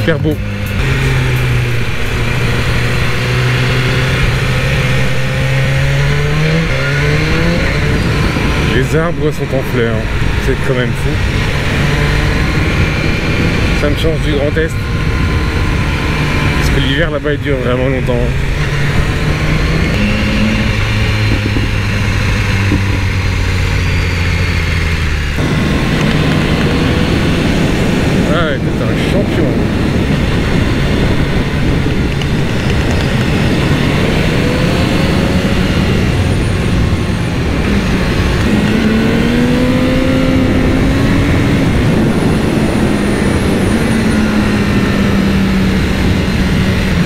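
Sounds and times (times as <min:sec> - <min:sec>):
motorcycle engine under throttle: 0:00.0 - 0:47.0
wind noise on microphone: 0:00.0 - 0:47.0.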